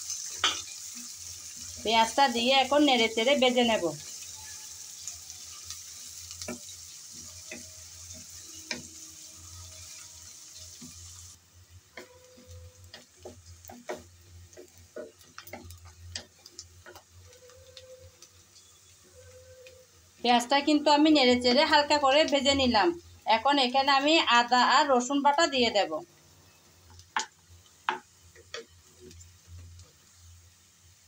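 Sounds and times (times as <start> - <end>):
onions sizzling in hot oil: 0.0 - 31.0.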